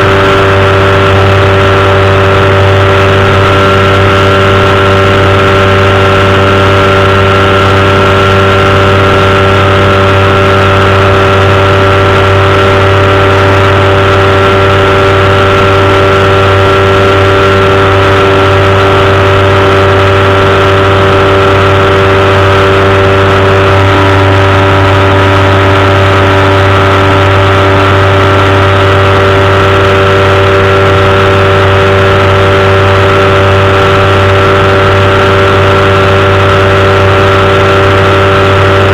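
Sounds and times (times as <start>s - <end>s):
engine and propeller drone: 0.0s - 38.9s.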